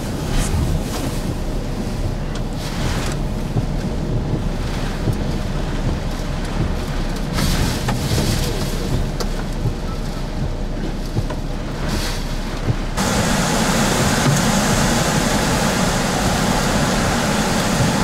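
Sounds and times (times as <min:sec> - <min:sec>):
driving rain on vehicle: 0:00.0 - 0:18.0
strong wind battering vehicle: 0:00.0 - 0:18.0.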